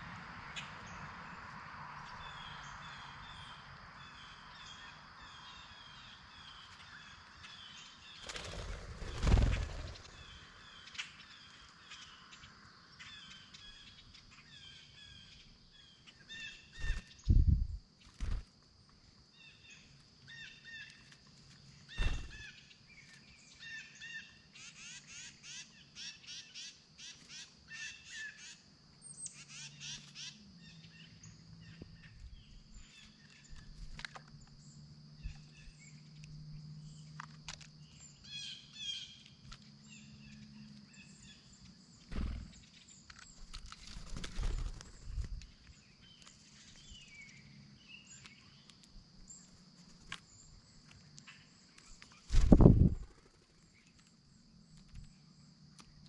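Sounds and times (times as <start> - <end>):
birds chirping and trilling: 2.0 - 18.5, 19.4 - 55.2.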